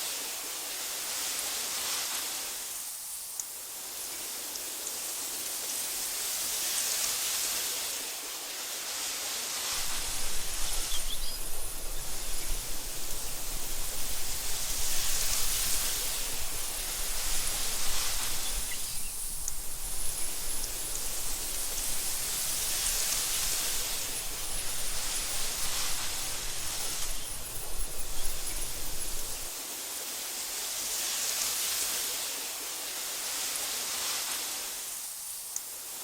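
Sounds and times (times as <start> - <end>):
wind through tall grass: 0.0 - 36.0.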